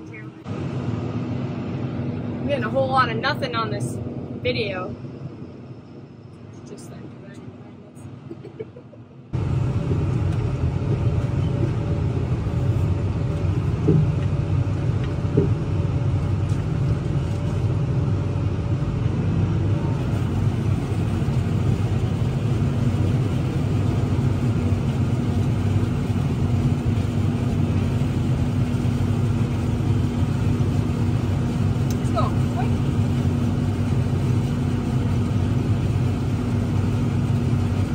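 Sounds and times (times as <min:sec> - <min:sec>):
tractor engine rumble: 0:00.0 - 0:37.9.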